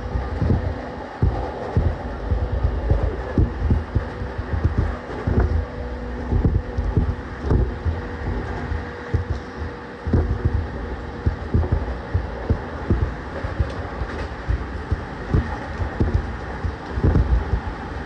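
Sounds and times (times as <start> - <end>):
train interior low rumble: 0.0 - 18.0
wheel thumps on track: 0.0 - 18.0.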